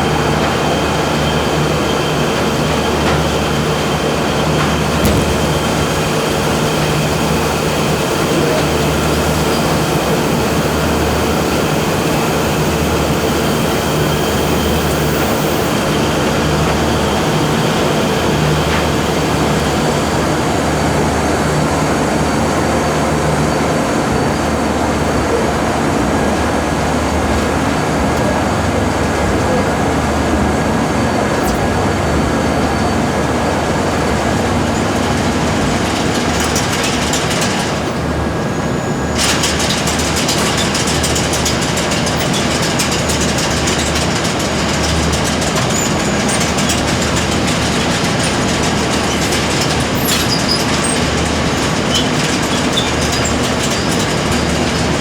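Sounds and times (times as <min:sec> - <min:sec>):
factory machinery running: 0:00.2 - 0:21.8, 0:24.7 - 0:55.0.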